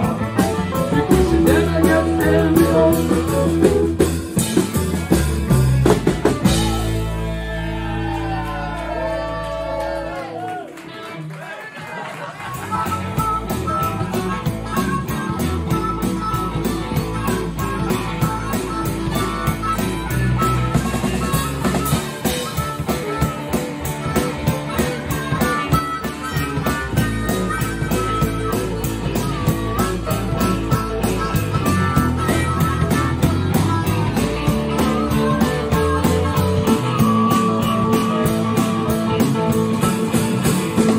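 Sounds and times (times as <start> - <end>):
drum kit beat: 0.0 - 8.4, 12.6 - 40.9
bass guitar: 0.0 - 11.3, 12.4 - 40.9
electric guitar: 0.0 - 11.4, 12.3 - 40.9.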